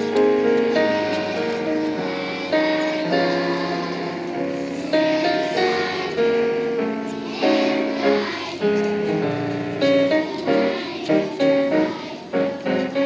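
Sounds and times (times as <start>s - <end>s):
children singing: 0.0s - 9.2s, 9.8s - 13.0s
piano accompaniment: 0.0s - 13.0s.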